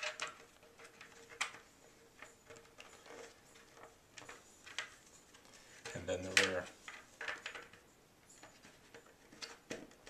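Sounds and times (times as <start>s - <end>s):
plastic clicks and scrapes: 0.0s - 7.8s, 8.4s - 10.0s.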